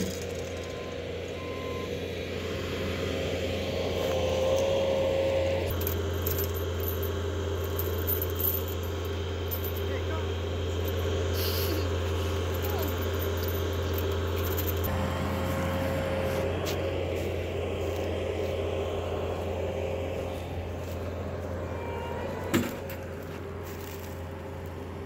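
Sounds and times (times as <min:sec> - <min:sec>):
skid steer engine humming: 0:00.0 - 0:25.0.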